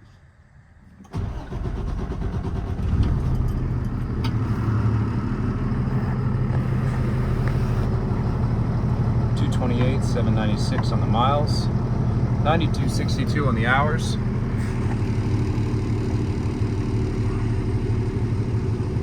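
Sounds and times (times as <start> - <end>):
diesel engine starting and idling: 0.8 - 19.0.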